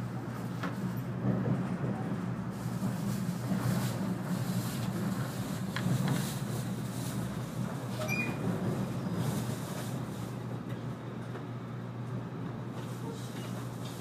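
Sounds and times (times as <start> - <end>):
low rumble of train wheels: 0.0 - 14.0.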